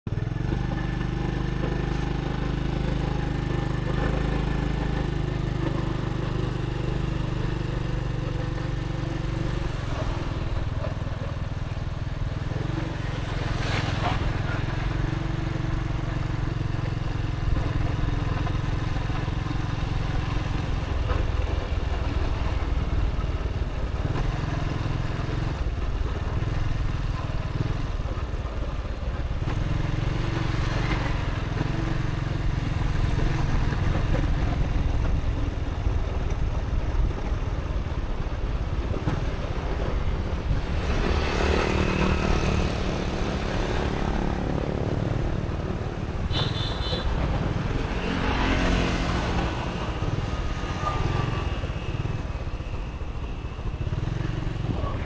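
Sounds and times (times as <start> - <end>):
motorbike engine running: 0.1 - 51.9
road noise: 0.1 - 55.0.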